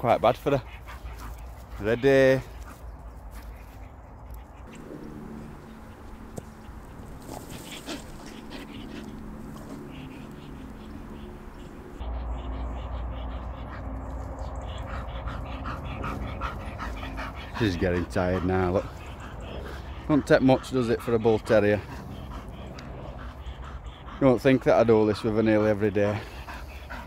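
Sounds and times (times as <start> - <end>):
wind: 0.0 - 27.0.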